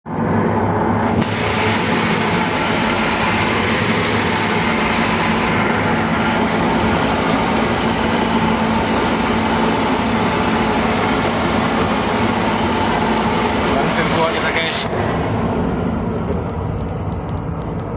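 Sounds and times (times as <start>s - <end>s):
car engine running: 0.1s - 17.9s.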